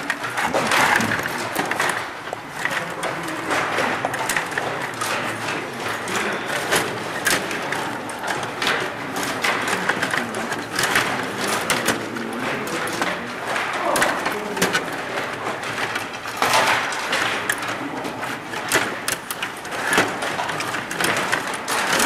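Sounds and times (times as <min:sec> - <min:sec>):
table hockey clicks and clacks: 0:00.0 - 0:22.0.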